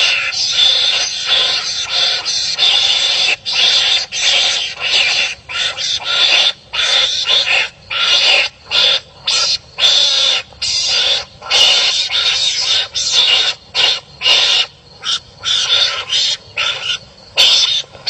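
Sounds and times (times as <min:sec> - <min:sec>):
animals making harsh raspy calls: 0:00.0 - 0:18.0.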